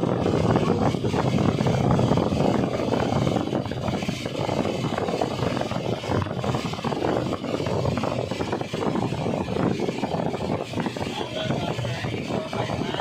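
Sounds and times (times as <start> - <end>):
aircraft piston engines rumbling: 0.0 - 13.0.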